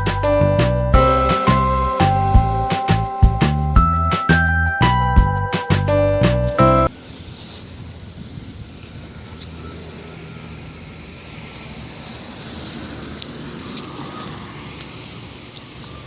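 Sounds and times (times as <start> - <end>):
passing vehicle traffic: 0.0 - 16.0.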